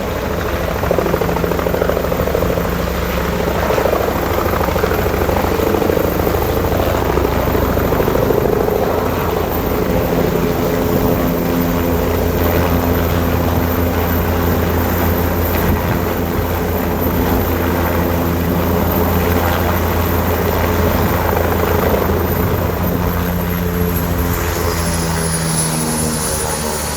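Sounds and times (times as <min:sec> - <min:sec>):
helicopter rotor and engine: 0:00.0 - 0:26.9.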